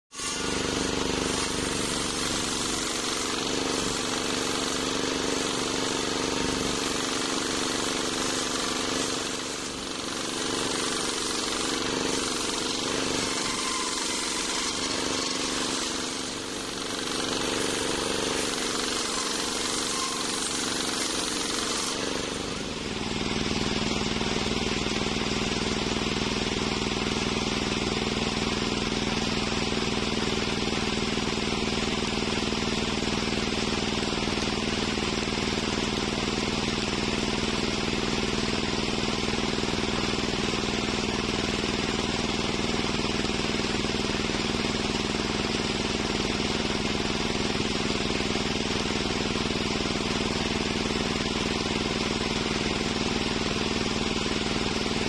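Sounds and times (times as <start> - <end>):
circular saw humming: 0.1 - 50.6.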